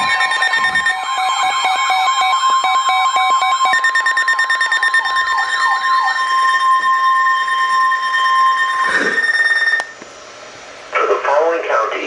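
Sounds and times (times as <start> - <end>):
steady single-pitch alert tone: 0.0 - 10.0
warbling sweeping alarm: 0.0 - 10.0.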